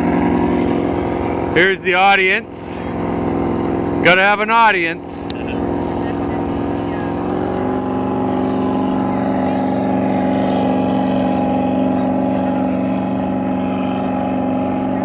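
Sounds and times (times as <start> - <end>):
jet boat engine at high revs: 0.0 - 15.0.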